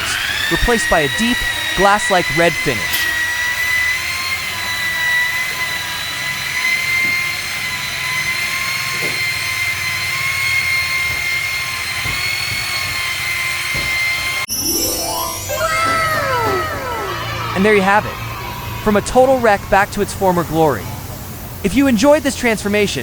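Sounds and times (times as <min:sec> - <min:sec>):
electric polisher whining: 0:00.0 - 0:14.4, 0:15.6 - 0:19.7.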